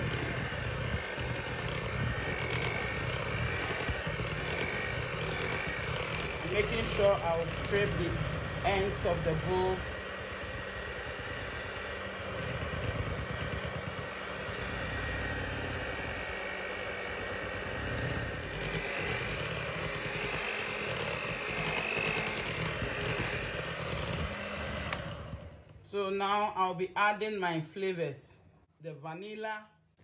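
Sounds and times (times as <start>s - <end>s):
electric hand mixer whirring: 0.0s - 25.8s.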